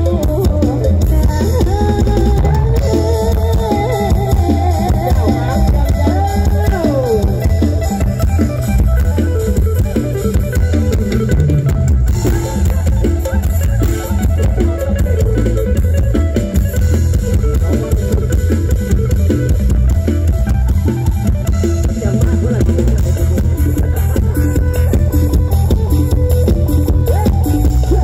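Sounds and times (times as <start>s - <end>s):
band music through speakers: 0.0s - 28.0s.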